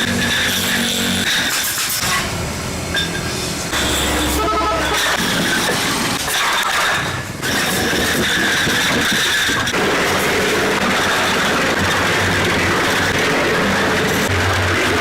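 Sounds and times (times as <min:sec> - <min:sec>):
loud machinery running: 0:00.0 - 0:15.0.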